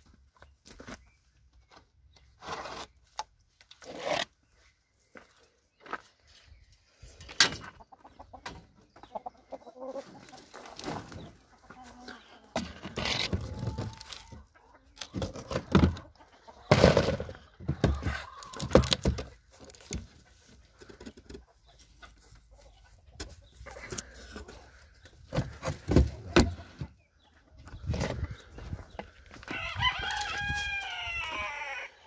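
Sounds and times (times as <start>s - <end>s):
chickens clucking: 4.3s - 32.0s.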